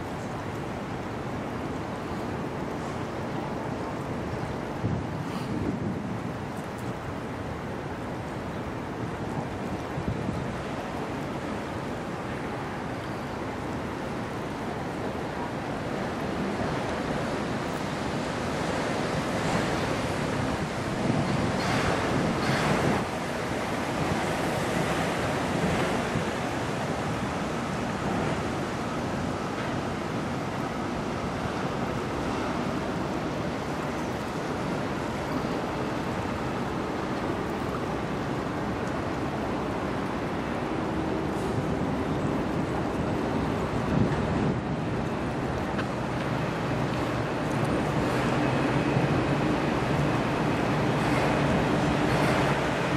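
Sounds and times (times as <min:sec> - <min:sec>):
moving water: 0:00.0 - 0:52.9
wind on microphone: 0:02.8 - 0:15.8, 0:16.4 - 0:52.9.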